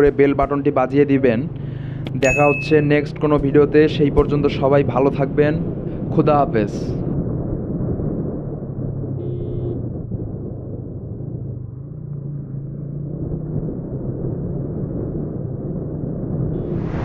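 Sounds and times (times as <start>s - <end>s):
deep engine-like rumble: 0.0s - 17.0s.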